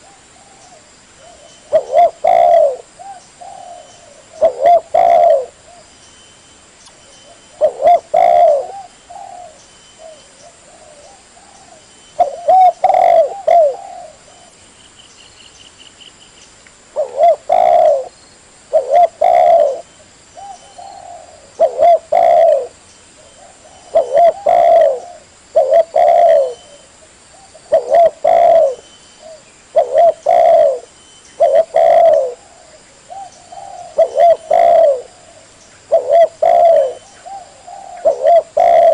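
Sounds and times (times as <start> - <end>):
dove cooing: 0.0 - 5.8, 7.2 - 14.6, 17.0 - 18.1, 18.7 - 38.9.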